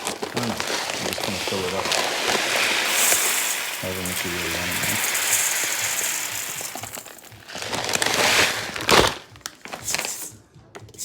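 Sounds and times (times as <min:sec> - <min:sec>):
dry rice pouring into pot: 0:00.0 - 0:10.3.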